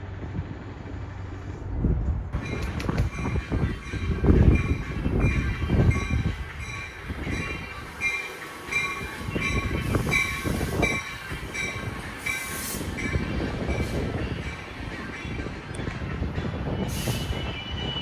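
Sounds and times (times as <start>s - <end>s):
train rumbling: 0.0s - 18.0s
locomotive bell ringing: 2.4s - 18.0s.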